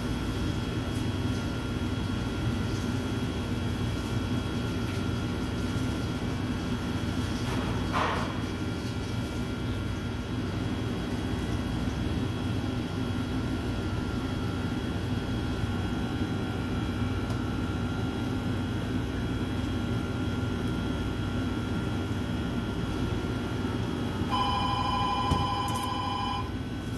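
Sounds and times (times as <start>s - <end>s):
low hum of machinery and fans: 0.0s - 26.9s.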